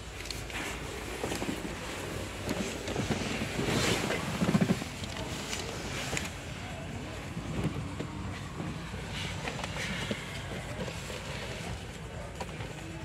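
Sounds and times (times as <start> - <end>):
bus cabin low rumble: 0.0 - 13.0.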